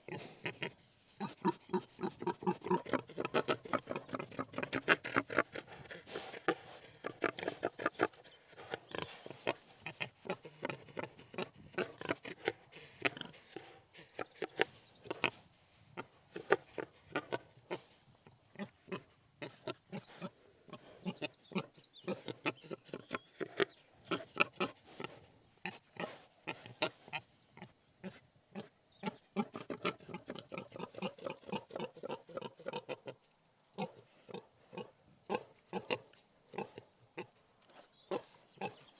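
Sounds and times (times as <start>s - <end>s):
pigs grunting and oinking: 0.0s - 33.2s, 33.8s - 37.3s, 38.1s - 38.9s.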